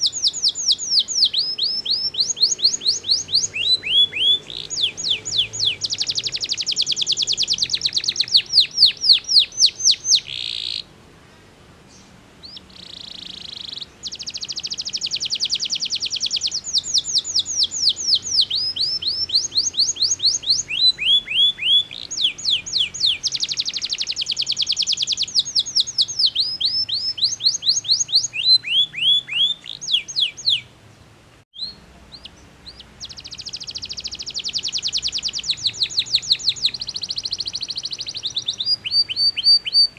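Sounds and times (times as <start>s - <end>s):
canary singing: 0.0s - 10.9s, 11.9s - 30.8s, 31.6s - 39.9s.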